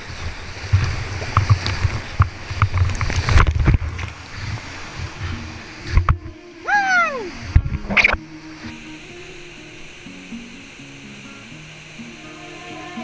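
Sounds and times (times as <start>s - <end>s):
whitewater rushing and splashing: 0.0s - 13.0s.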